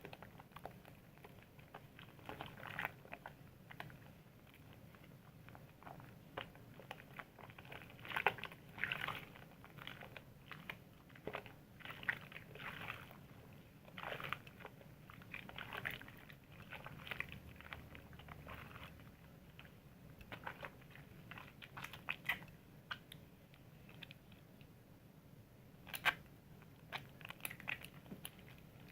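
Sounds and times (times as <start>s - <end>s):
soap lather squishing and crackling: 0.0s - 24.7s, 25.8s - 28.9s.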